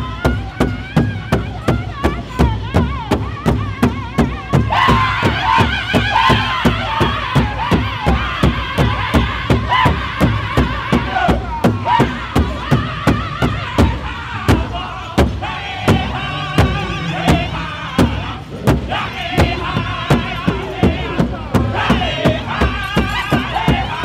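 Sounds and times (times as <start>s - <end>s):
group singing in high voices: 0.0s - 24.0s
large drum beating: 0.0s - 24.0s.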